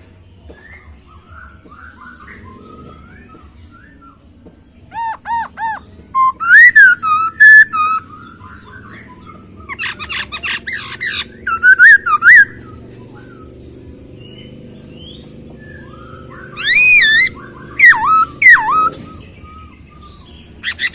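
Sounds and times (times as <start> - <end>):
bird whistling song: 0.5 - 20.9.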